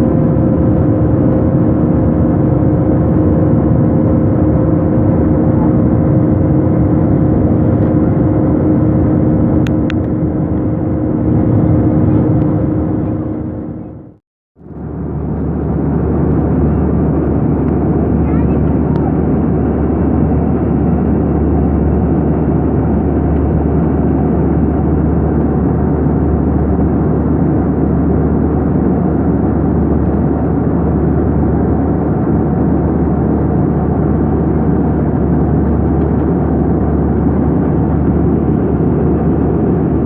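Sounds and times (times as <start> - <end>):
jet engine rumble and rush: 0.0 - 40.0.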